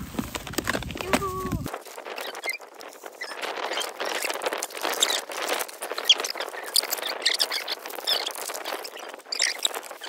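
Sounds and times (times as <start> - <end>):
plastic and foil packaging crinkling: 0.0 - 10.0.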